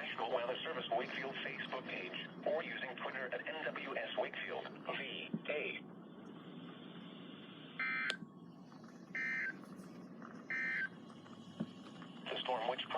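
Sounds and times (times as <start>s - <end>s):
faint radio hiss: 0.0s - 12.9s.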